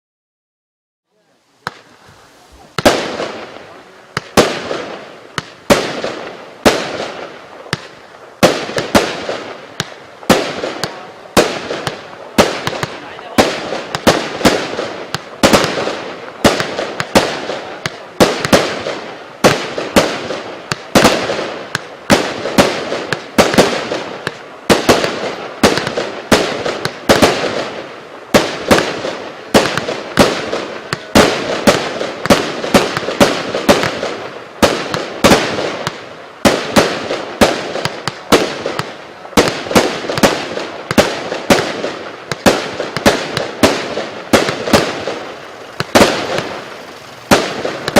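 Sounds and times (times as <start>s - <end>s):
fireworks sharp bangs: 1.1s - 47.9s.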